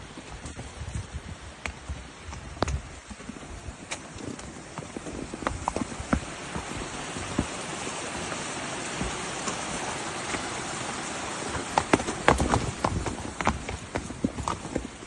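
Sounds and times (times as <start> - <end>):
horse hooves clopping: 0.0 - 15.0
water flowing: 2.3 - 15.0.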